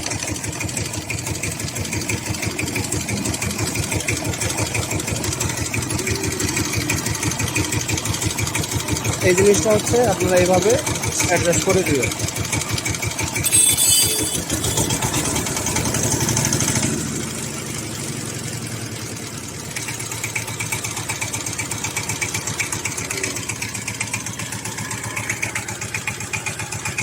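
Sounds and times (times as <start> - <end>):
diesel engine clattering: 0.0 - 27.0.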